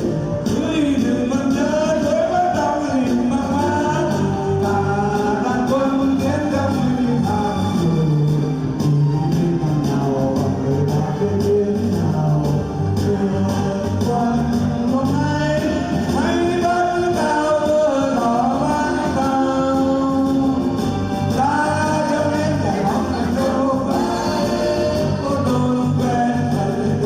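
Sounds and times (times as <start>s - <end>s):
loud instrumental accompaniment: 0.0s - 27.0s
person singing: 0.0s - 27.0s.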